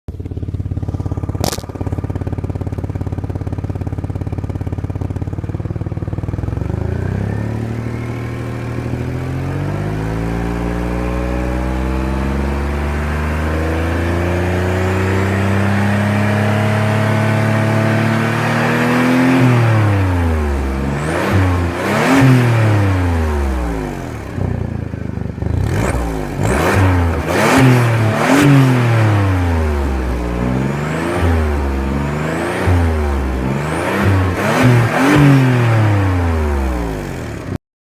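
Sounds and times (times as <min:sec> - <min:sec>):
car engine idling and revving: 0:00.0 - 0:37.6.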